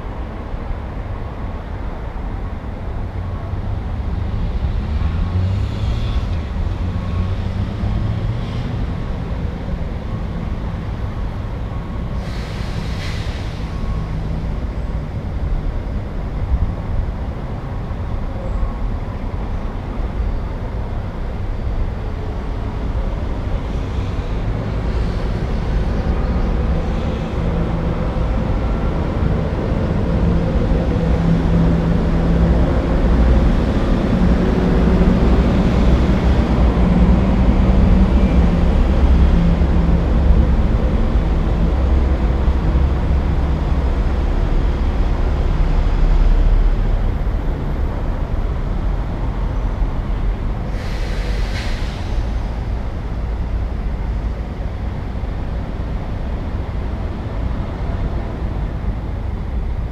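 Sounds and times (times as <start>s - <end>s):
heavy engine humming: 0.0s - 59.9s
passing vehicles rumbling: 0.0s - 59.9s.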